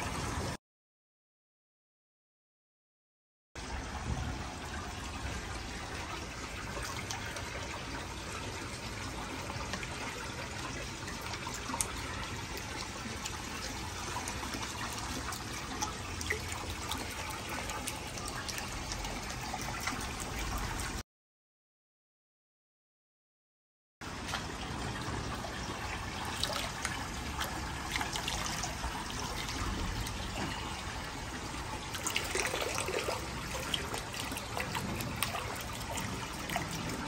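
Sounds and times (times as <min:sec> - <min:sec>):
water splashing and trickling: 0:00.0 - 0:00.6, 0:03.6 - 0:21.0, 0:24.0 - 0:37.0.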